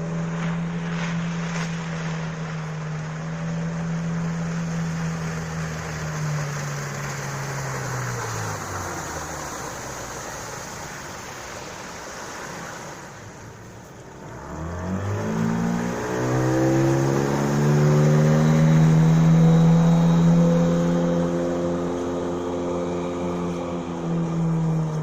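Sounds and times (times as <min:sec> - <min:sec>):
outboard motor running: 0:00.0 - 0:25.0.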